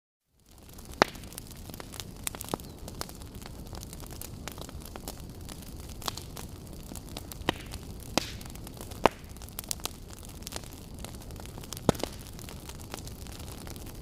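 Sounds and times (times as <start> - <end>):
irregular crackles and pops: 0.3 - 14.0.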